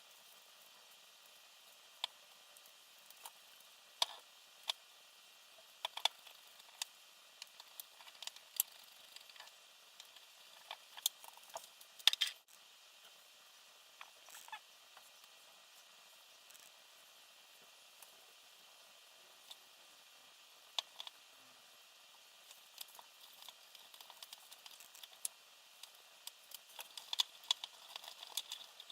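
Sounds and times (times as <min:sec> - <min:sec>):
small parts and tools clicking: 0:00.1 - 0:12.6, 0:16.4 - 0:16.8, 0:17.8 - 0:21.3, 0:22.1 - 0:28.9.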